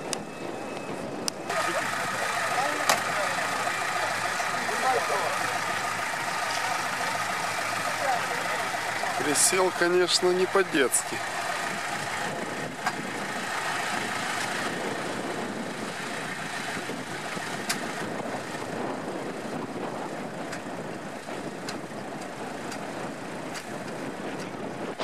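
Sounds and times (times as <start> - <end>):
vehicle engine idling: 0.0 - 24.7.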